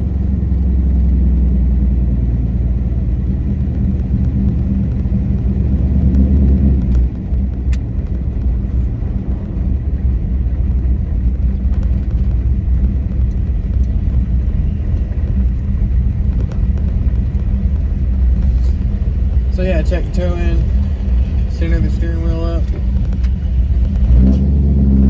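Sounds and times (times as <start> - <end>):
truck engine rumbling: 0.0 - 25.0.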